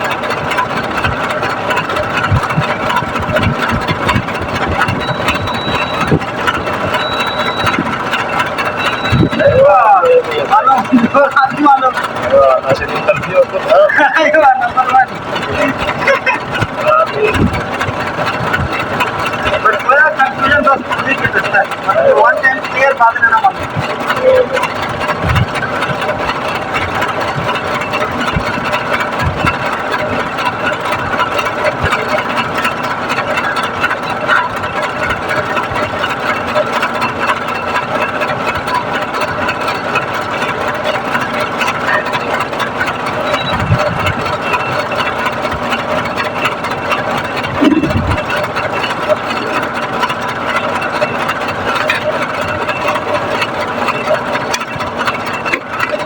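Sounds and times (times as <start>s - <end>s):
motor-driven machine humming: 0.0s - 56.0s.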